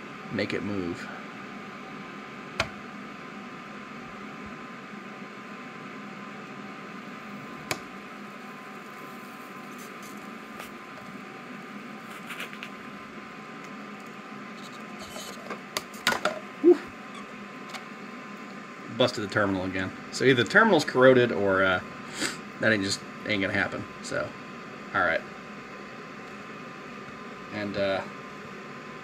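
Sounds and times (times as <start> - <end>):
fume extractor running: 0.0 - 29.0
soldering gun hum and hiss: 0.0 - 29.0.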